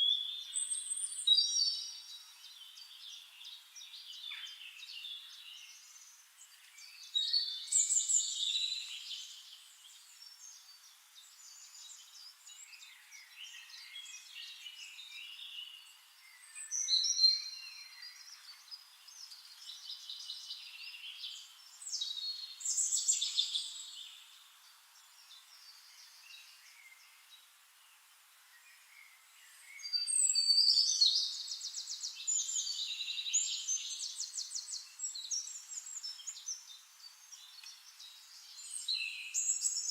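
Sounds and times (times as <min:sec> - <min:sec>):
birds chirping and singing: 0:00.0 - 0:27.4, 0:28.6 - 0:39.9.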